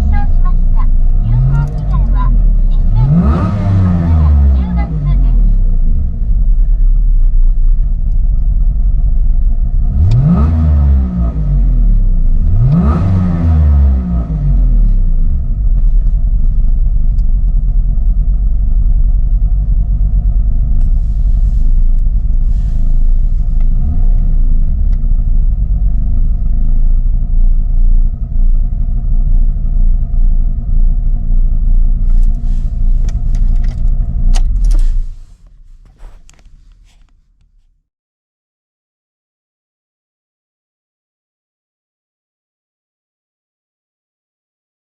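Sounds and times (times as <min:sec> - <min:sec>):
car engine idling and revving: 0:00.0 - 0:37.7.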